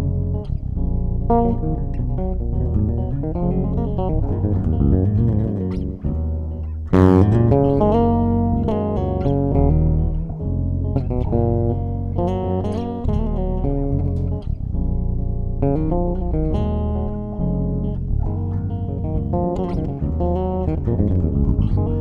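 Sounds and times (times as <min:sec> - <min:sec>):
electric bass played fingerstyle: 0:00.0 - 0:22.0.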